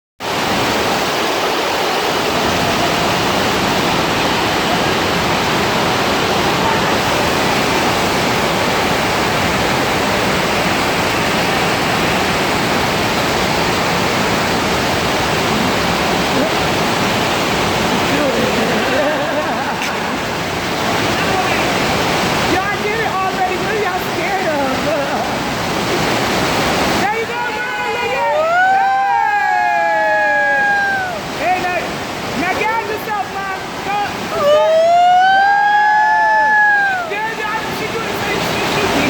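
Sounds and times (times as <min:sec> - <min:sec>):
falling and splashing water: 0:00.2 - 0:39.0.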